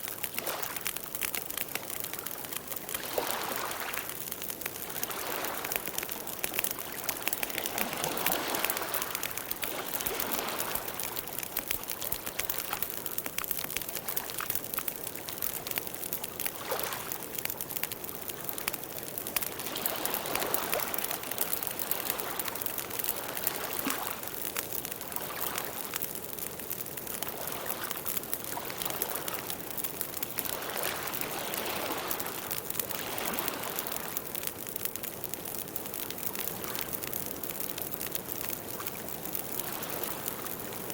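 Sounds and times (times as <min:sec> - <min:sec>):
wood crackling and popping: 0:00.0 - 0:40.9.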